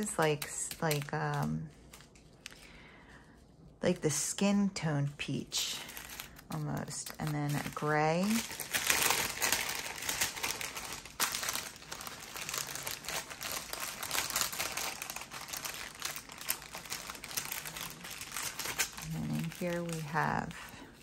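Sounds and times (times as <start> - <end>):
plastic bags crinkling: 0.0 - 2.8, 5.5 - 21.0.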